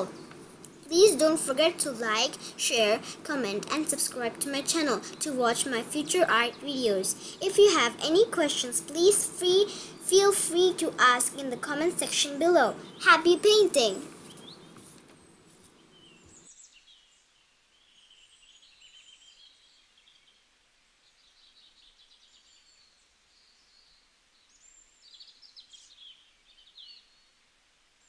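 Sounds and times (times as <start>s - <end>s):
small birds chirping and trilling: 4.3s - 27.4s.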